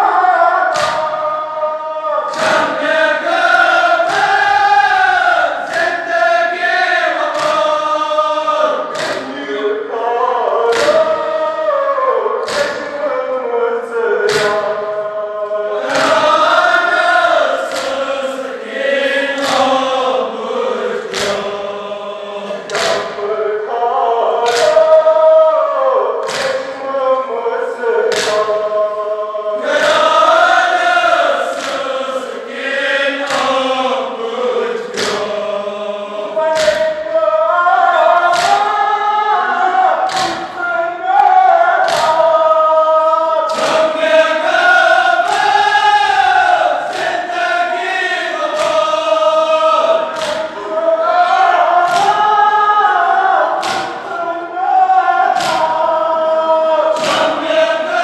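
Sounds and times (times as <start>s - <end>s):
crowd of men chanting: 0.0s - 58.0s.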